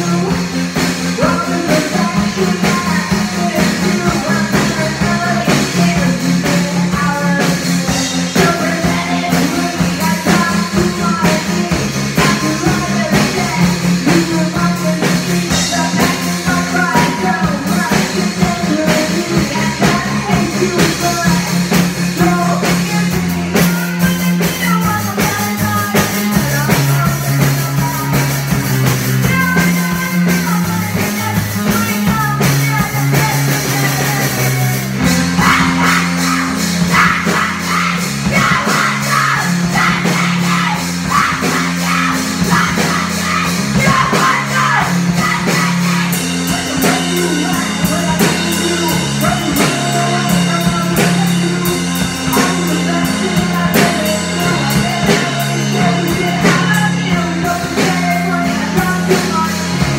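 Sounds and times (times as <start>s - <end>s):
drum kit: 0.0s - 59.9s
electric keyboard low notes: 0.0s - 59.9s
woman singing: 0.0s - 59.9s.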